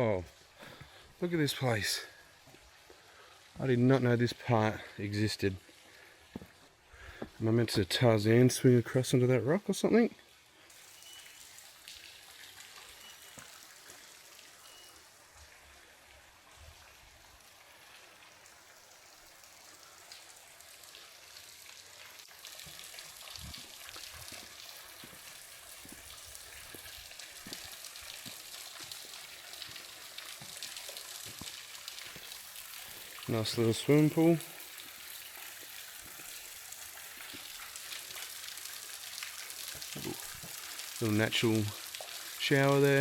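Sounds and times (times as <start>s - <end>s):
water trickling over rock: 0.1s - 9.1s, 10.2s - 43.0s.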